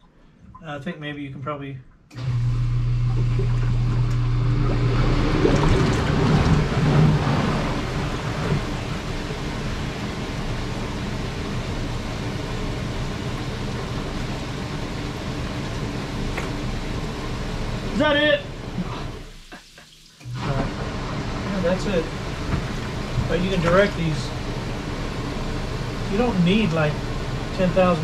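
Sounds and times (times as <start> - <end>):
bathtub jet motor humming: 2.1 - 28.0
water churning and bubbling: 2.4 - 28.0.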